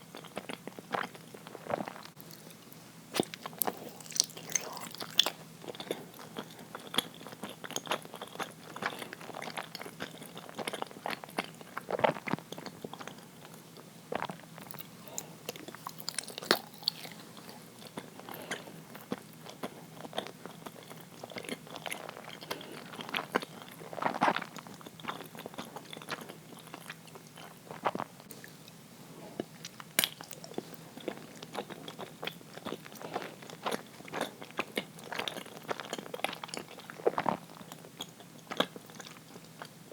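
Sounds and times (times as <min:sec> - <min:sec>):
person chewing: 0:00.1 - 0:02.6, 0:03.2 - 0:39.7.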